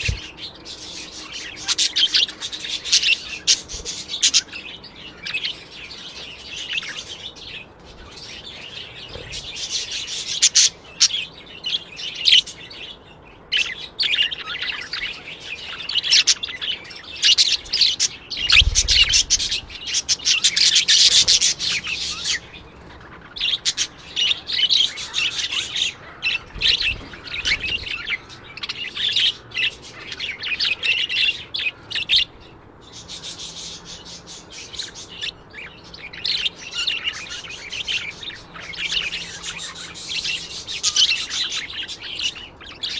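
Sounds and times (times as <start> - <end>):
small birds chirping and twittering: 0.0 - 42.9.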